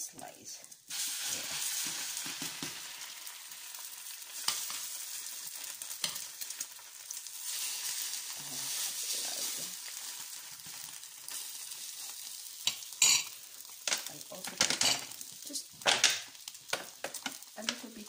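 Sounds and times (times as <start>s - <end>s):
bread frying in oil: 0.7s - 18.0s.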